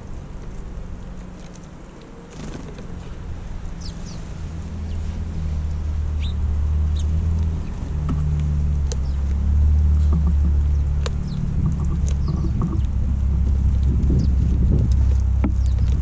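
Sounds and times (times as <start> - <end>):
sparrows chirping: 0.0 - 16.0
vehicle engine hum: 0.0 - 16.0.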